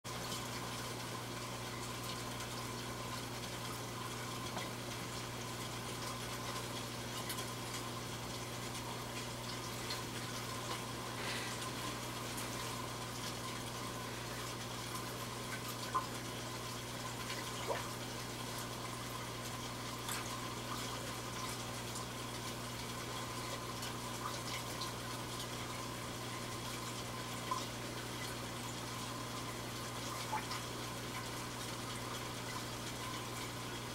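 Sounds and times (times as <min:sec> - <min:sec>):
pump hum: 0:00.1 - 0:33.9.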